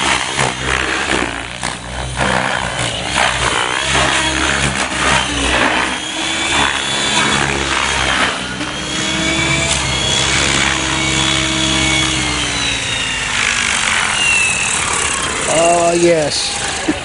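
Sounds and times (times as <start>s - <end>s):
rc helicopter rotor whir: 0.0s - 17.0s.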